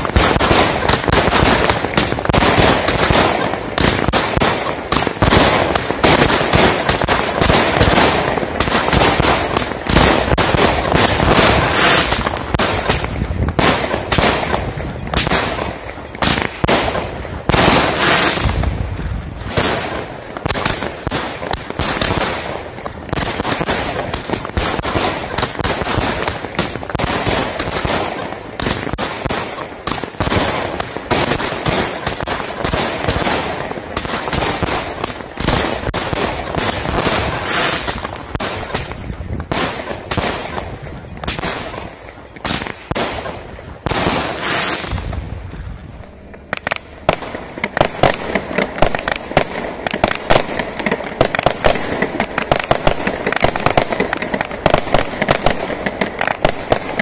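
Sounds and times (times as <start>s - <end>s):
fireworks rapid bangs: 0.0s - 45.7s, 46.5s - 57.0s.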